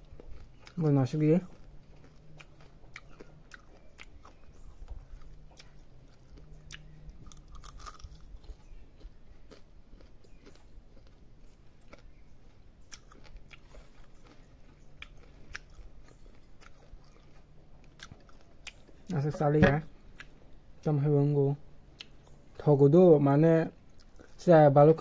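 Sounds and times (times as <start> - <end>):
person chewing crunchy insect: 0.0 - 20.6, 23.8 - 24.4.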